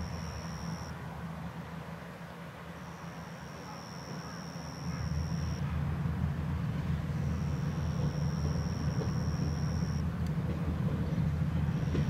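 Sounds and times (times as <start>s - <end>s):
train diesel engine hum: 0.0s - 12.0s.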